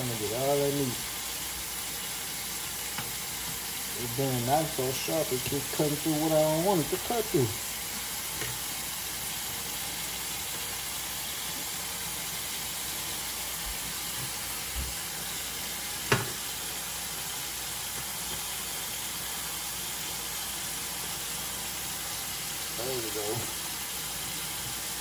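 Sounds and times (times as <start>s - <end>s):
tap water running into metal sink: 0.0s - 25.0s.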